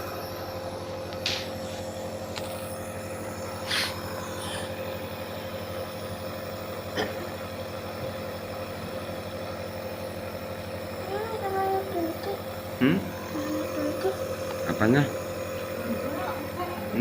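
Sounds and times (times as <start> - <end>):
nebulizer motor humming: 0.0 - 17.0.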